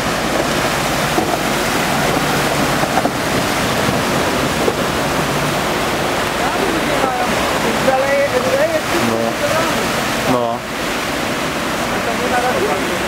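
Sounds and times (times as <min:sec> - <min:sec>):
floodwater rushing and splashing: 0:00.0 - 0:13.0.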